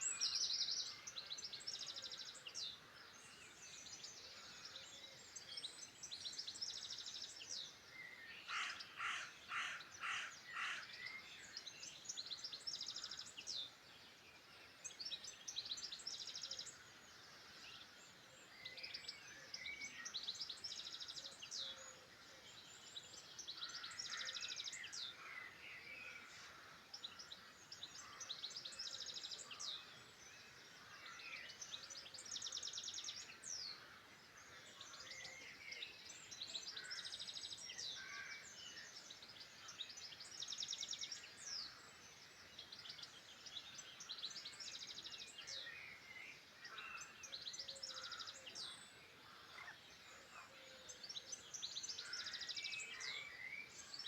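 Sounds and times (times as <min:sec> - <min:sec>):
wild birds singing: 0:00.0 - 0:54.0.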